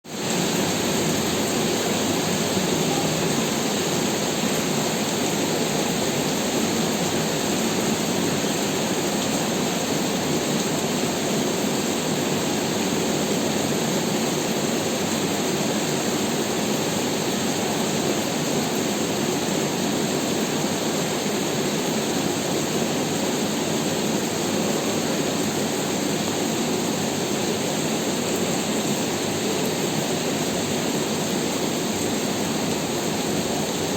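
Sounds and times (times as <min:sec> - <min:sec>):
rain falling steadily: 0:00.0 - 0:33.9.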